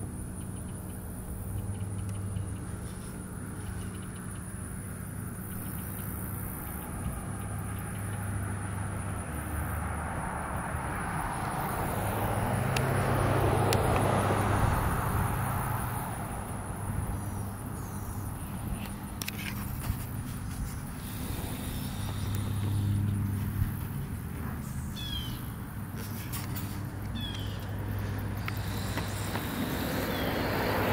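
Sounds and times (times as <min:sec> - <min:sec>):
vehicle passing by: 0:01.2 - 0:30.9.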